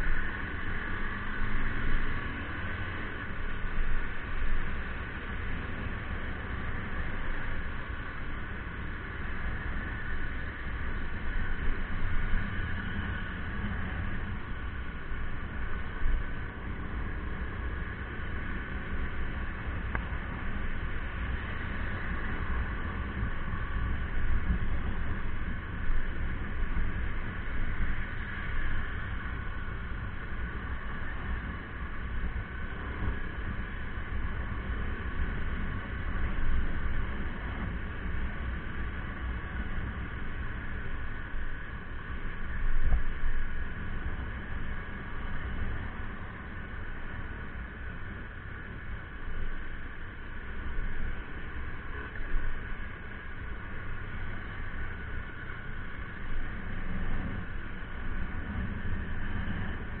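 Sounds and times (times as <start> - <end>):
faint steady tones: 0.0 - 60.0
low outdoor rumble: 0.0 - 60.0.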